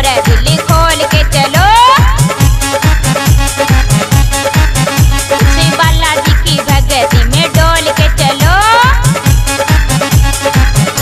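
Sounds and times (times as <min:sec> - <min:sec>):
fast bass drum beat: 0:00.0 - 0:11.0
synthesised melody: 0:01.6 - 0:11.0.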